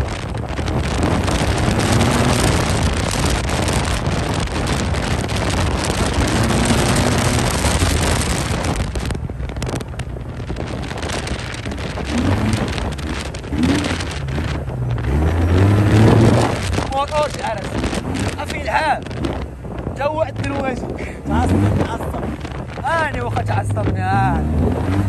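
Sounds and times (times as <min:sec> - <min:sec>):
scooter engine revving: 0:00.0 - 0:25.0
wind rushing over microphone: 0:00.0 - 0:25.0.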